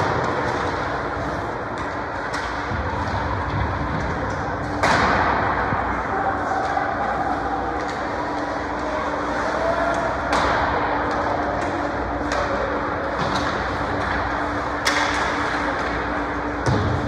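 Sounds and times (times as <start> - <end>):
hockey sticks clacking: 0.0 - 17.0
steady hum: 0.0 - 17.0.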